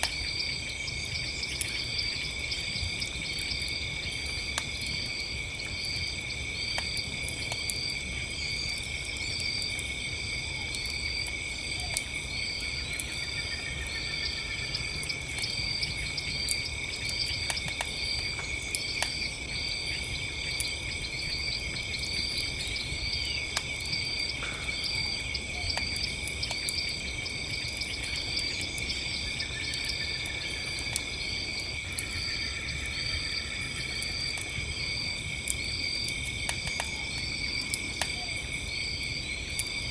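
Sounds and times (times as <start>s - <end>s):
campfire pops and crackles: 0.0s - 39.9s
crickets and night insects: 0.0s - 39.9s.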